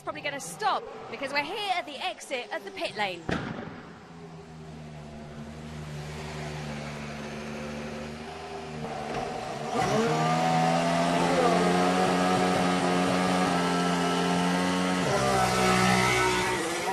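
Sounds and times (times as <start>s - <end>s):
racing car engine revving: 0.0s - 16.9s.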